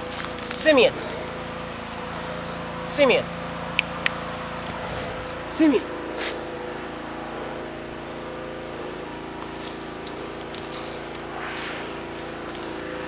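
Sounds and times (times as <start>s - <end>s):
distant pressure washer motor: 0.0s - 13.0s.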